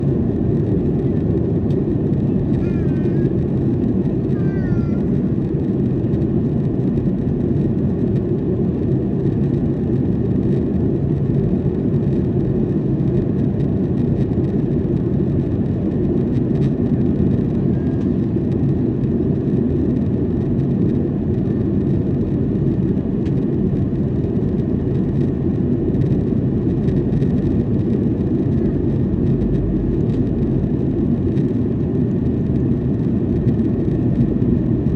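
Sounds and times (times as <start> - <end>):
airliner cabin roar: 0.0 - 34.9.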